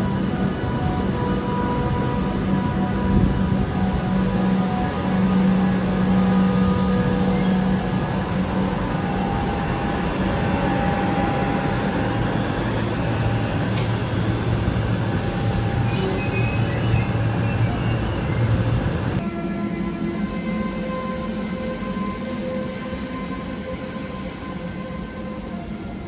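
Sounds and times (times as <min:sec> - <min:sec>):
electric train rumbling on track: 0:00.0 - 0:26.0.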